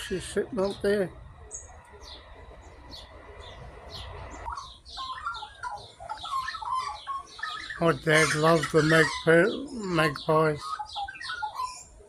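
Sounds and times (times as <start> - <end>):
birds chirping: 0.0 - 12.0
bird warbling: 1.4 - 12.0.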